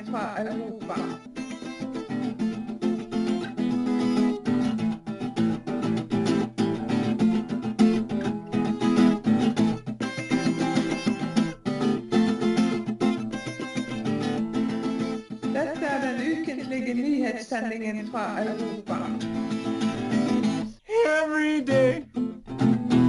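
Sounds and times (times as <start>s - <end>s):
plucked guitar music: 0.0s - 23.0s.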